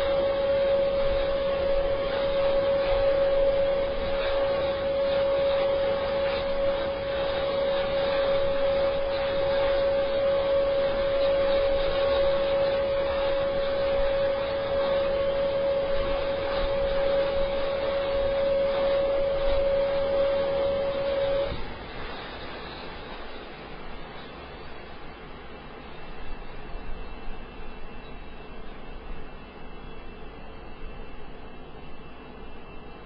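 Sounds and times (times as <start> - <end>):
turboprop engine running: 0.0 - 33.0.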